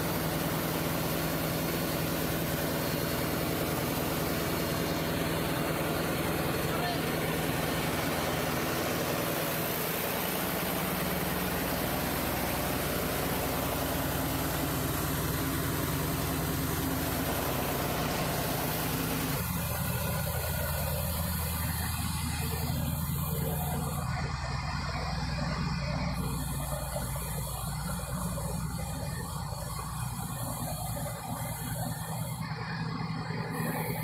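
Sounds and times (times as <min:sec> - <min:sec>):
broad rushing noise: 0:00.0 - 0:34.0
diesel machinery droning: 0:00.0 - 0:34.0.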